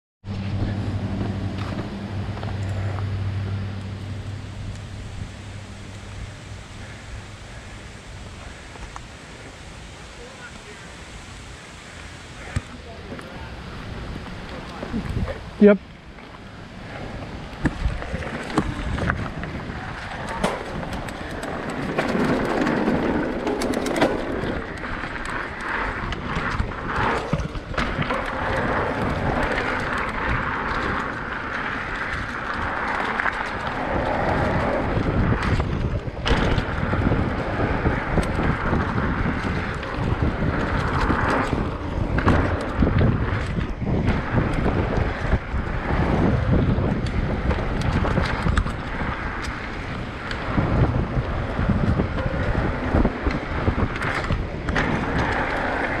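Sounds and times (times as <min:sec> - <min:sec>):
bike tyres rolling on trail: 0:00.2 - 0:56.0
wind buffeting microphone: 0:00.2 - 0:56.0.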